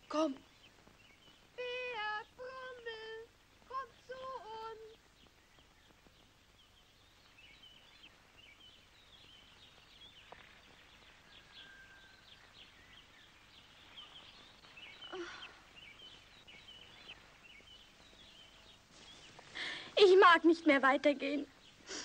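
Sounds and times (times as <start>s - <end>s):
faint birds chirping and trilling: 0.0s - 22.0s.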